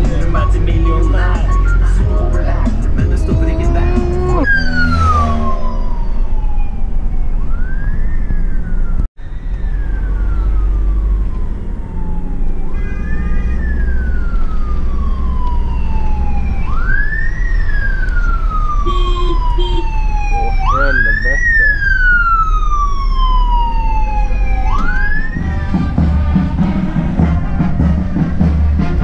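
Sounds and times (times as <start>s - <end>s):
van engine and road rumble: 0.0s - 29.0s
wailing emergency siren: 0.7s - 29.0s.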